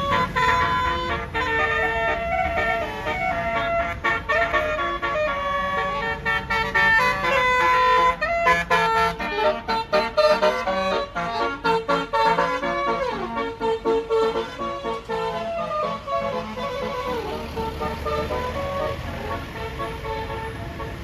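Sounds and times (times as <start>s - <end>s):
bus musical horn tune: 0.0s - 21.0s.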